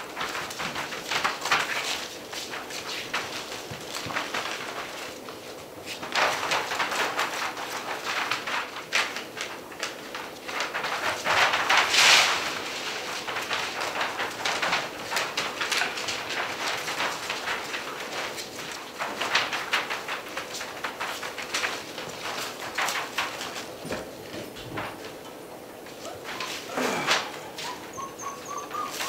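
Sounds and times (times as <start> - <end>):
puppies scuffling and rustling: 0.0 - 29.0.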